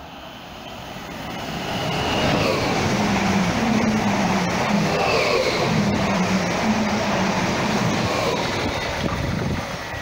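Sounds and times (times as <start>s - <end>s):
train passing at speed: 0.0s - 10.0s
wheels rushing on rail: 0.0s - 10.0s.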